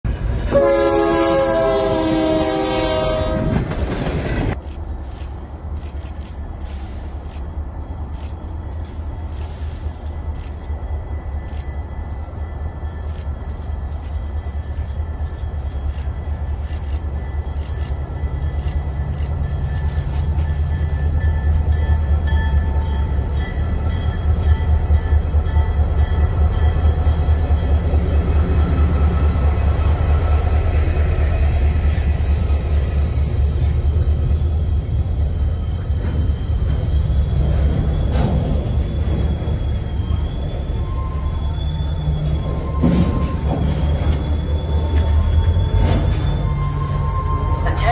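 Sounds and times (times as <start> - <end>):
diesel locomotive rumble: 0.0 - 47.9.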